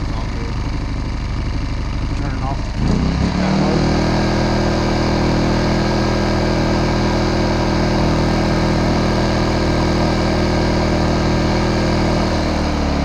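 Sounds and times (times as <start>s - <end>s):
generator engine running: 0.0s - 13.0s.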